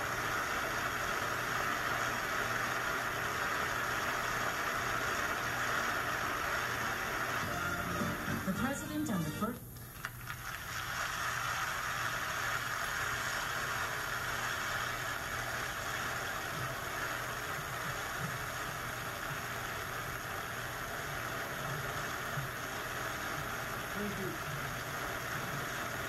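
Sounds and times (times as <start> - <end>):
audience applauding: 0.0 - 8.5, 10.0 - 26.0.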